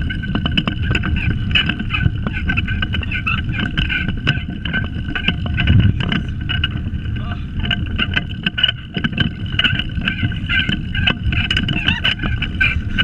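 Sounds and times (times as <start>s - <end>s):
go-kart frame rattling clicks: 0.0s - 13.0s
hard wheels rumbling on asphalt: 0.0s - 13.0s.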